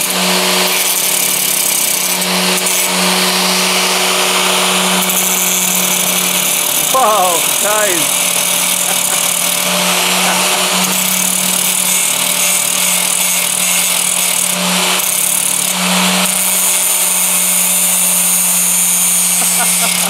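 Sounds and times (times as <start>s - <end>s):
angle grinder grinding steel: 0.0s - 20.0s.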